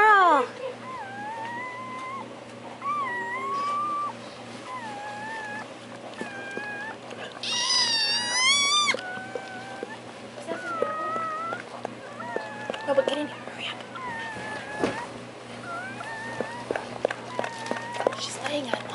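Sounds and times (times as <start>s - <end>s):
dog whining: 0.0s - 18.7s.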